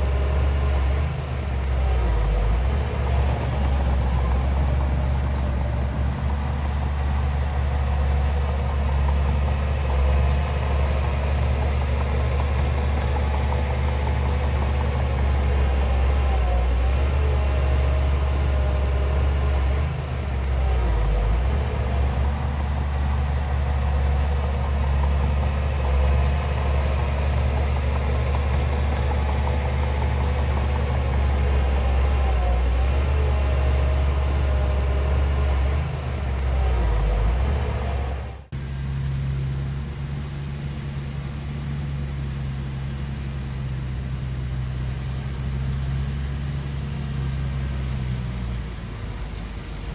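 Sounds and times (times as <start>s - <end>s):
diesel engine rumbling: 0.0s - 49.9s.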